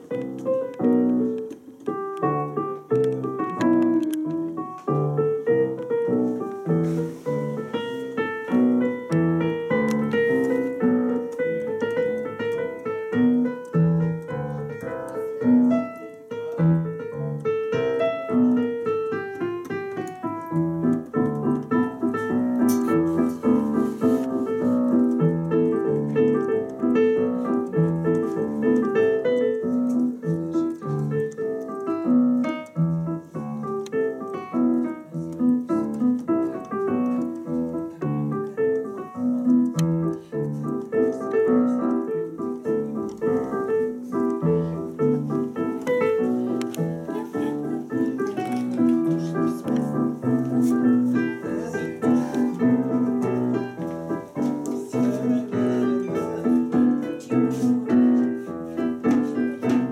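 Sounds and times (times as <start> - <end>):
digital piano playing: 0.0 - 59.9.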